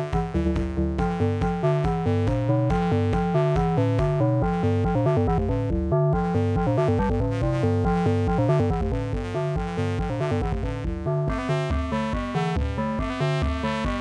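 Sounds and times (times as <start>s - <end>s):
pulsing bass line: 0.0s - 14.0s.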